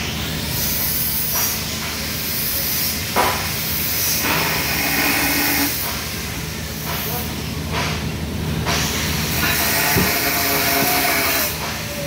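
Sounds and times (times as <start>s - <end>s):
welding arc hissing: 0.0s - 7.5s, 8.6s - 12.0s.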